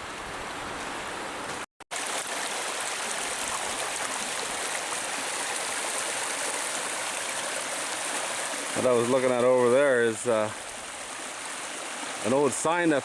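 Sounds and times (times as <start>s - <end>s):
water rushing over rocks: 1.9s - 13.0s.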